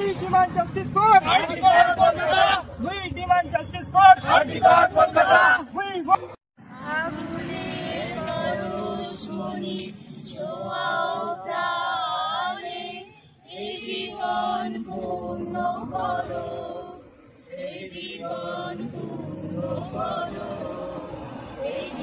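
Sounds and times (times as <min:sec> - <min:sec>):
group singing without instruments: 0:00.9 - 0:02.8, 0:04.0 - 0:22.0.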